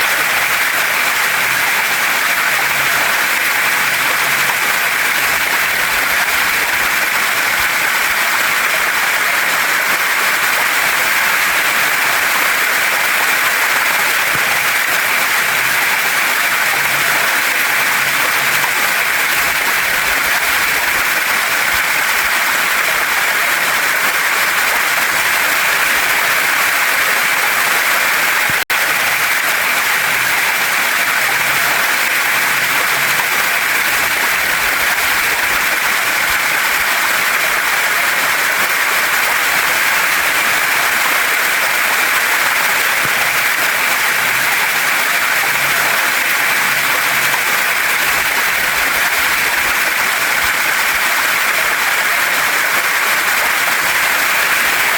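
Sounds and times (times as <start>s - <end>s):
water pouring over rocks: 0.0s - 54.9s.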